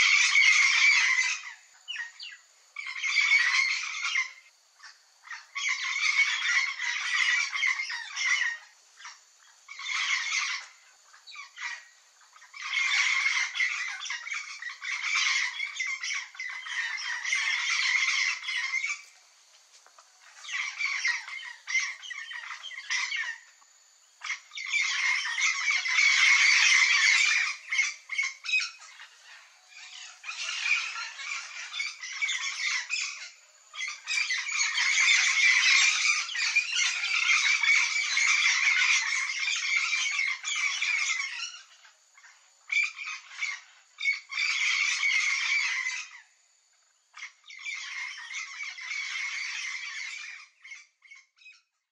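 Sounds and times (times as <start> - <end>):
flock of parrots calling: 0.0 - 19.2, 19.8 - 23.6, 24.2 - 46.4, 47.1 - 51.9.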